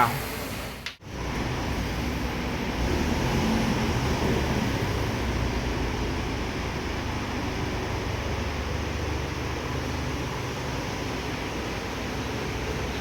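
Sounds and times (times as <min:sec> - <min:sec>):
road noise: 0:01.0 - 0:13.0.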